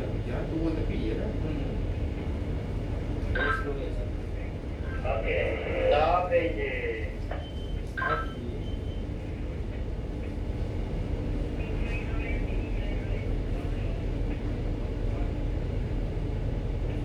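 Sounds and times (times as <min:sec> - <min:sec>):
ship engine rumbling: 0:00.0 - 0:17.0.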